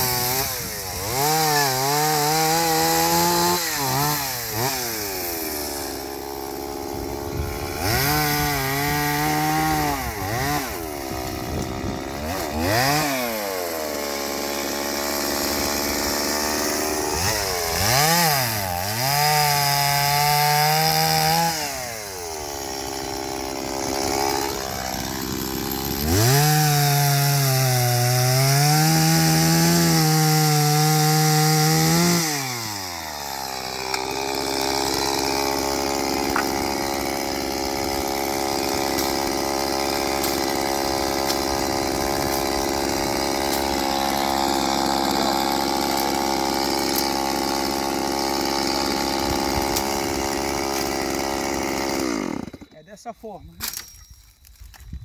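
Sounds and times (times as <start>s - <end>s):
chainsaw revving: 0.0s - 52.8s
chainsaw idling: 0.0s - 53.0s.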